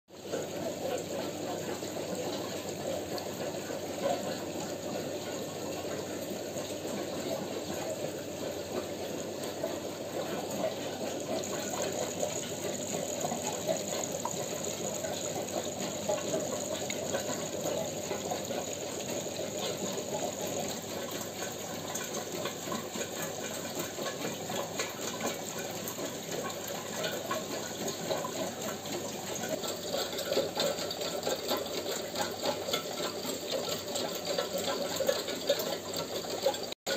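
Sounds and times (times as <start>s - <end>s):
aquarium water bubbling: 0.1s - 36.9s.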